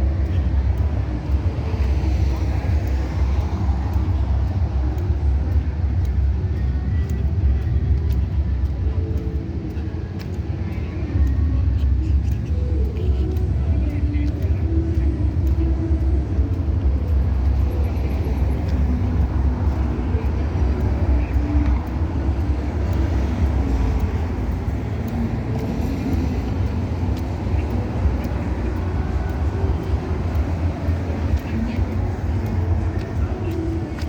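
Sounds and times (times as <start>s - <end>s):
cars passing on busy street: 0.0s - 34.0s.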